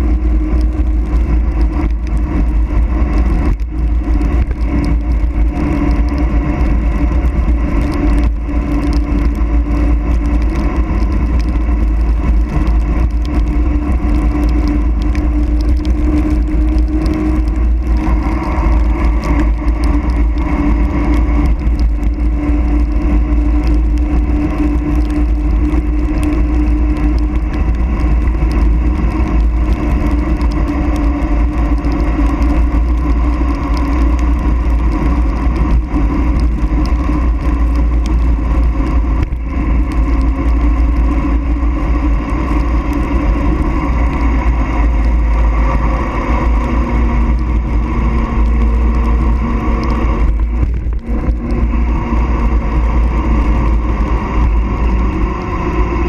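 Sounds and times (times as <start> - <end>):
steady hum: 0.0 - 56.0
tyre noise on asphalt: 0.0 - 56.0
wind buffeting microphone: 0.0 - 56.0.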